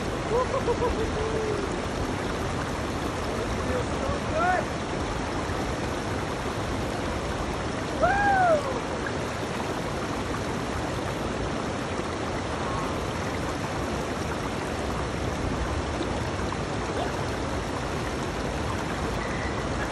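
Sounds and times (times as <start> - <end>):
water rushing over rocks: 0.0 - 19.9.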